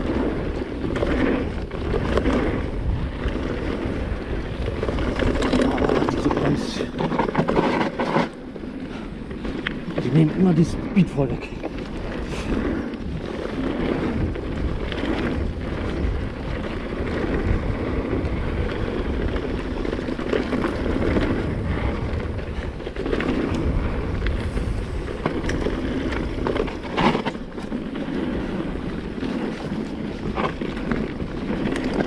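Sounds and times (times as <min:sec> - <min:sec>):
bike knocking and rattling: 0:00.0 - 0:32.0
bike tyres rumbling over stones: 0:00.0 - 0:32.0
wind on microphone: 0:00.0 - 0:32.0.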